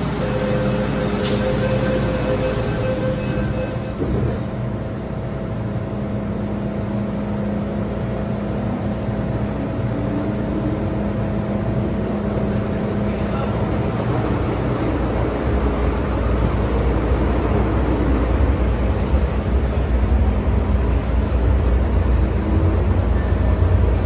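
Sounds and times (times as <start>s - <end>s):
train interior hum: 0.0s - 24.0s.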